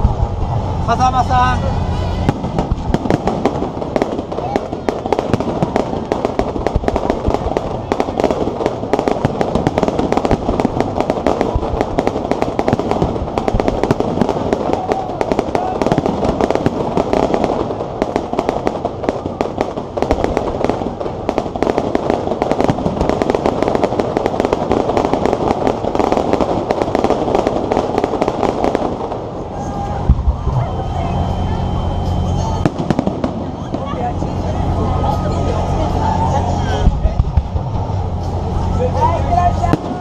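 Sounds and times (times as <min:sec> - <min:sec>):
fireworks crackling and popping: 0:00.0 - 0:40.0.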